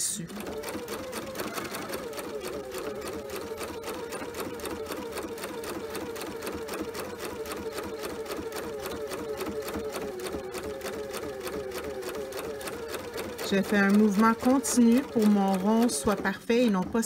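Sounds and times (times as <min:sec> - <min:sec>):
sewing machine stitching: 0:00.0 - 0:17.0.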